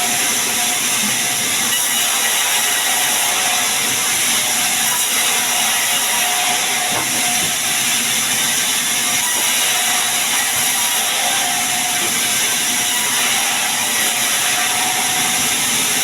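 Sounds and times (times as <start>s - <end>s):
sawmill saw cutting wood: 0.0s - 16.0s.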